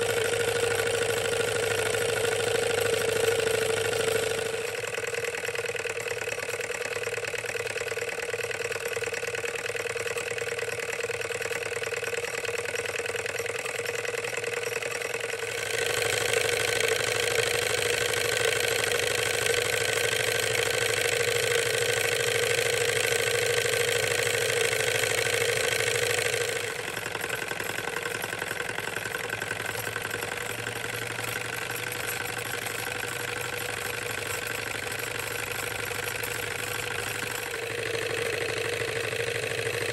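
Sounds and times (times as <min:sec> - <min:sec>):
toy engine running: 0:00.0 - 0:39.9.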